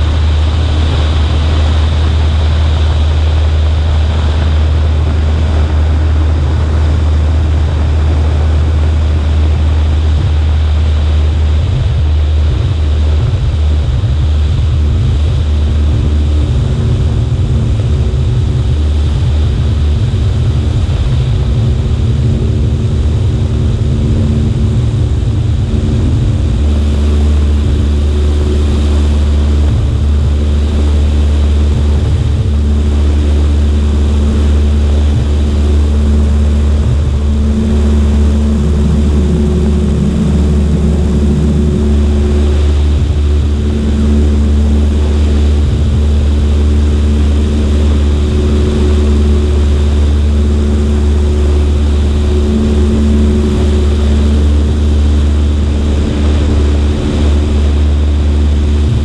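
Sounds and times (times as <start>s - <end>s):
propeller plane engine droning: 0.0s - 59.0s
wind rumble on microphone: 0.0s - 59.0s.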